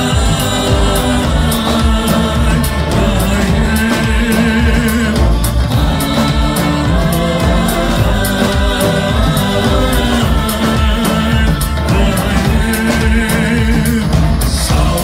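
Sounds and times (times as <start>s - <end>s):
brass band playing: 0.0s - 15.0s
keyboard: 0.0s - 15.0s
marching snare and drum kit: 0.0s - 15.0s.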